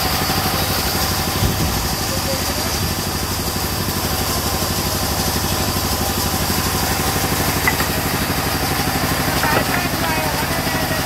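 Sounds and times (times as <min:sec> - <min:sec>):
band saw and engine running: 0:00.0 - 0:11.0.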